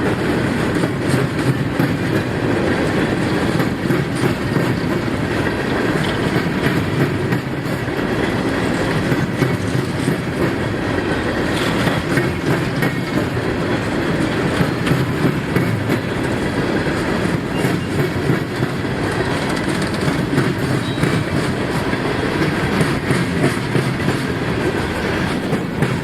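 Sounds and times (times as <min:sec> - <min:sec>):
train cars rolling past: 0:00.0 - 0:26.0
wheels clicking over rail joints: 0:00.0 - 0:26.0.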